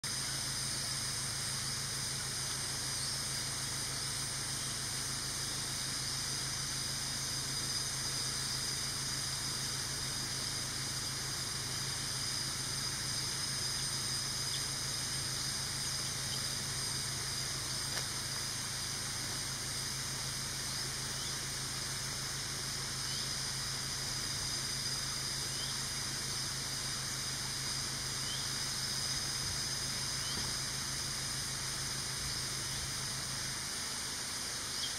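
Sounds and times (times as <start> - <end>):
high-pitched insect drone: 0.0 - 34.9
low even hum: 0.0 - 34.9.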